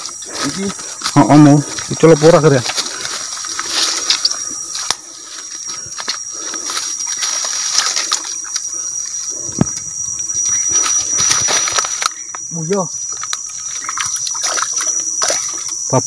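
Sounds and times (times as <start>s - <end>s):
stems snapping: 0.0s - 9.0s, 10.5s - 15.9s
footsteps through wet grass: 0.0s - 9.1s, 10.4s - 12.1s, 13.1s - 15.9s.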